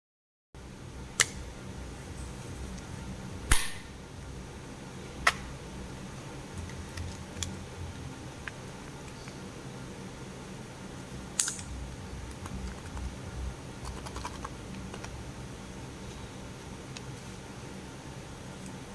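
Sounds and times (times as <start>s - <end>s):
low steady hum: 0.6s - 18.9s.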